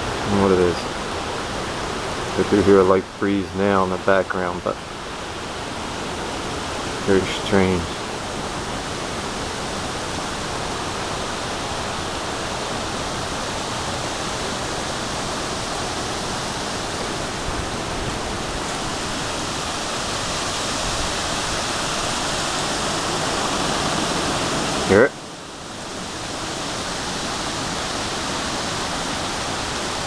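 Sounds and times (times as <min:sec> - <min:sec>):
hurricane winds roaring: 0:00.0 - 0:30.0.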